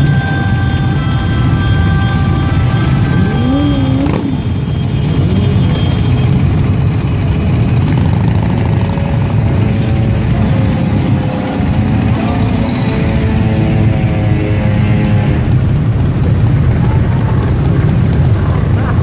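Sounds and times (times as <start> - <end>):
motorcycles idling: 0.0 - 19.0.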